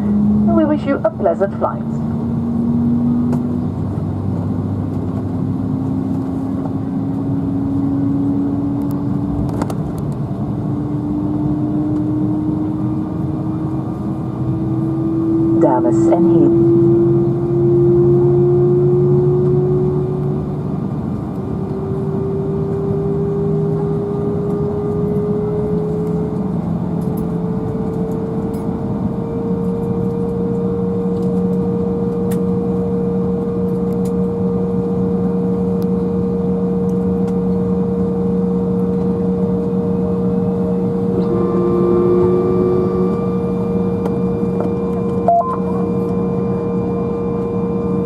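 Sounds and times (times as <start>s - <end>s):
jet engines whining in cabin: 0.0s - 48.0s.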